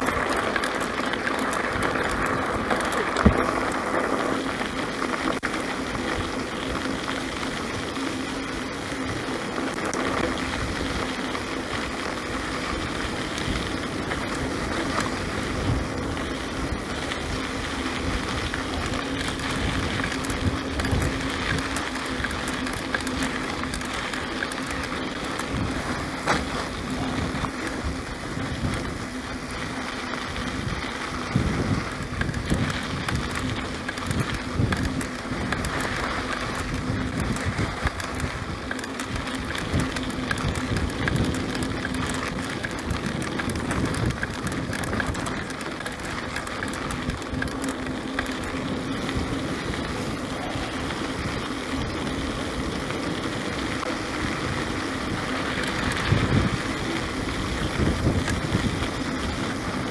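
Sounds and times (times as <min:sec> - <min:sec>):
tyre and wind noise: 0:00.0 - 0:59.9.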